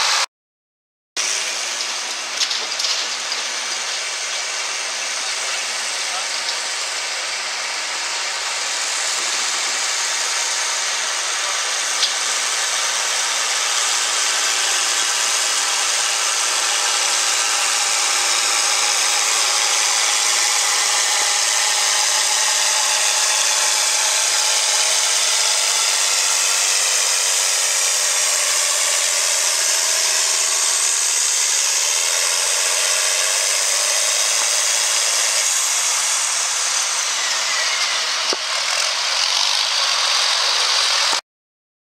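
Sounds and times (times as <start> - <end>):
tractor diesel engine under load: 1.2 - 41.2.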